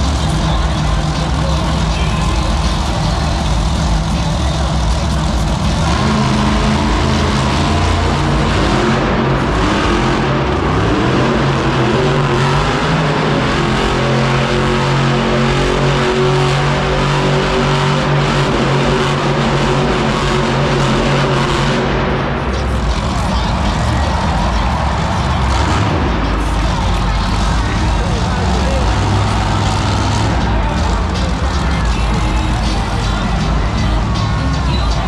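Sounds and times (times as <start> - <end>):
monster truck engine revving: 0.0 - 35.0.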